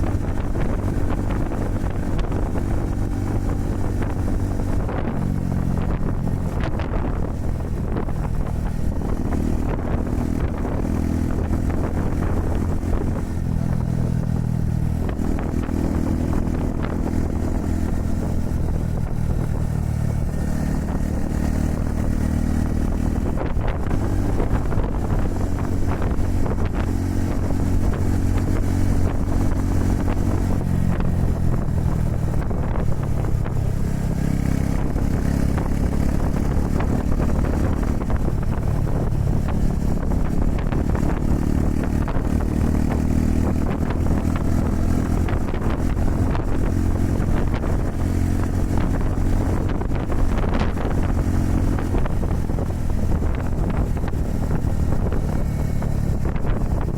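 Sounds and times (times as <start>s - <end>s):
motorcycle engine running: 0.0s - 56.9s
wind buffeting microphone: 0.0s - 56.9s.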